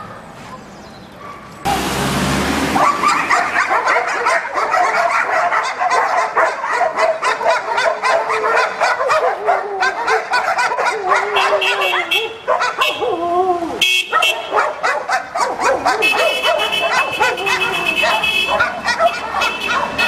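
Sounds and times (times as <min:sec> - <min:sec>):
dog barking and yipping: 0:01.2 - 0:01.8, 0:02.7 - 0:13.2, 0:13.8 - 0:20.0.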